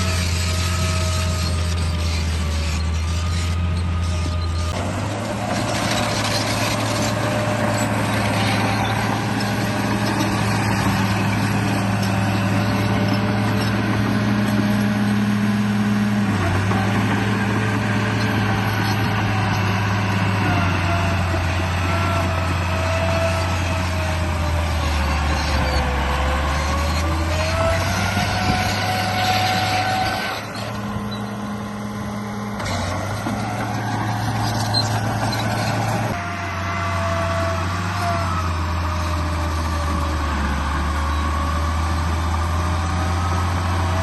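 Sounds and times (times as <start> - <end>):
toy bulldozer motor whining: 0.0 - 44.0.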